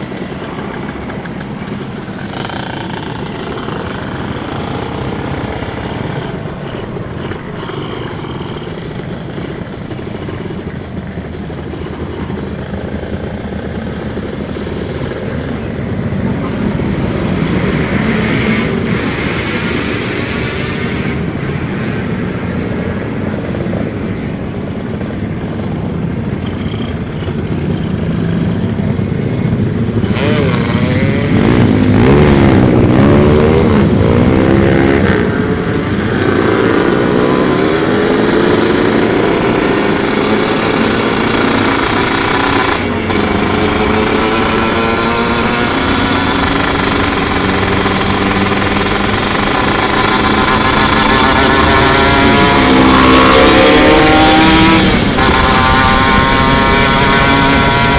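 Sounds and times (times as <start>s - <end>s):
two-stroke motorcycle engine: 0.0s - 57.9s.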